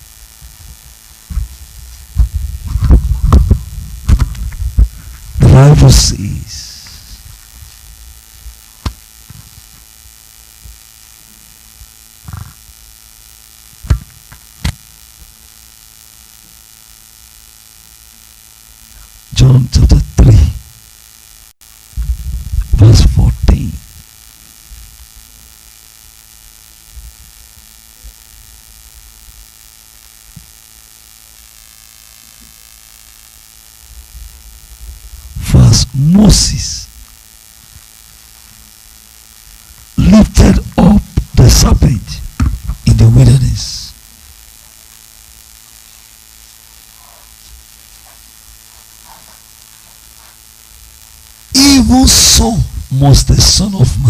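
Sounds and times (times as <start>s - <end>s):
electrical hum and hiss: 0.0s - 54.0s.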